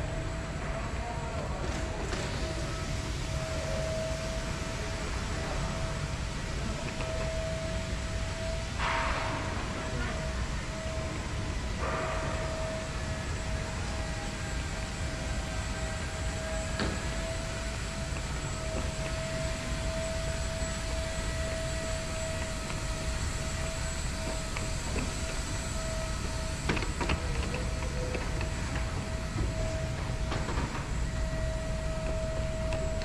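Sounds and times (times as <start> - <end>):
mid-pitched hum: 0.0 - 33.0
train rumbling: 0.0 - 33.0.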